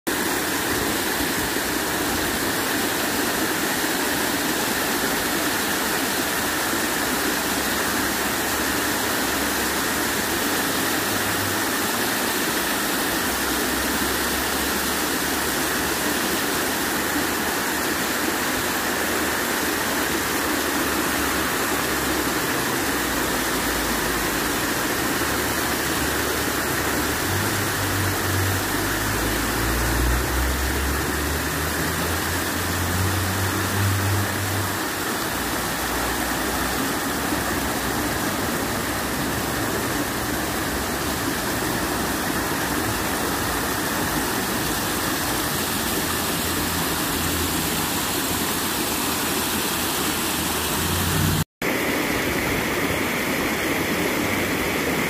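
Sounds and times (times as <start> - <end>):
fountain water splashing: 0.1 - 55.0.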